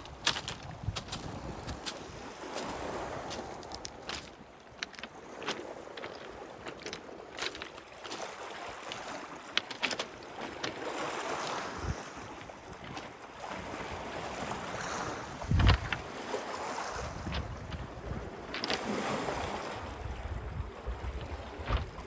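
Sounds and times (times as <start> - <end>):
footsteps on beach stones: 0.0 - 19.8, 20.8 - 22.0
small waves lapping on rocks: 0.0 - 22.0.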